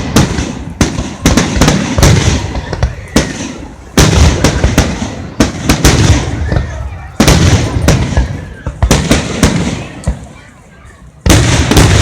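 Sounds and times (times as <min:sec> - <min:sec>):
fireworks exploding: 0:00.0 - 0:12.0.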